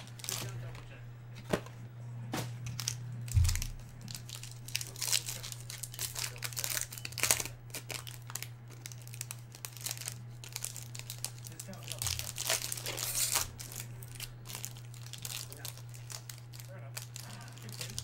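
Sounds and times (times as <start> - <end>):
foil wrapper tearing and crinkling: 0.0 - 0.9, 2.6 - 18.0
steady low hum: 0.0 - 18.0.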